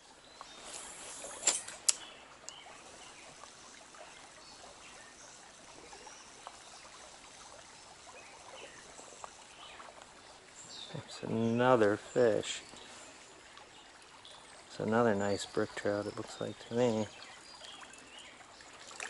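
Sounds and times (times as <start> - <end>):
stream water trickling: 0.0 - 19.0.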